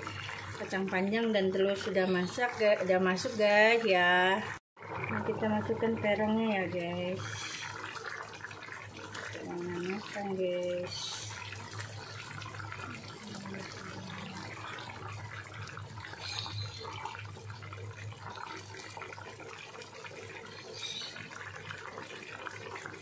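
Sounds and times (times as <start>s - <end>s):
stew sloshing and bubbling: 0.0s - 23.0s.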